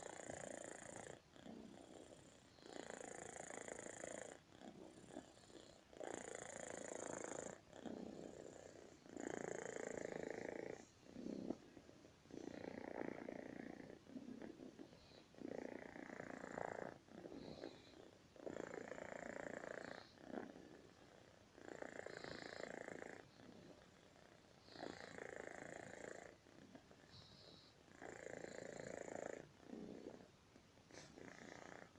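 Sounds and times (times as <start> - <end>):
cat snoring: 0.0 - 30.3, 30.9 - 31.9.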